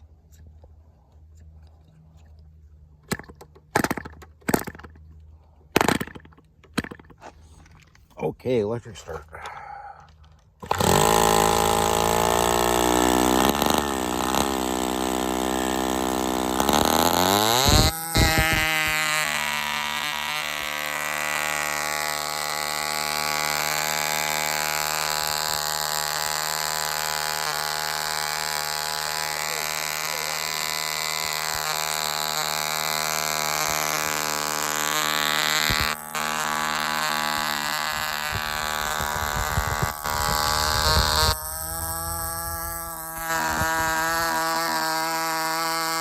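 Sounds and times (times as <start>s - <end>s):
model airplane engine running: 9.0s - 46.0s.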